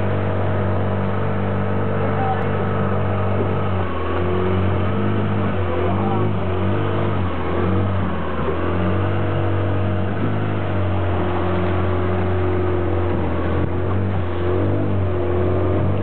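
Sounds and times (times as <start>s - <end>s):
outboard motor humming: 0.0s - 16.0s
water rushing: 0.0s - 16.0s
wind: 0.0s - 16.0s.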